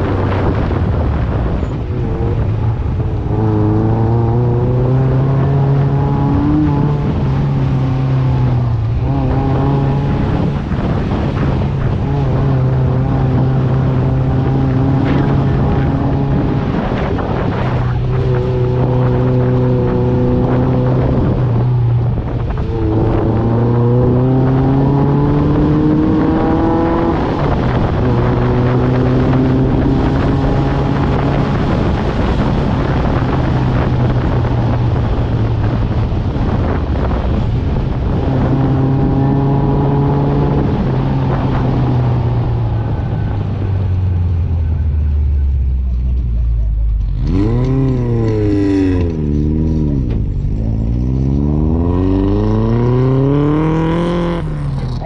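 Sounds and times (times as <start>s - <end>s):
off-road vehicle engine: 0.0s - 55.0s
wind on microphone: 0.0s - 55.0s.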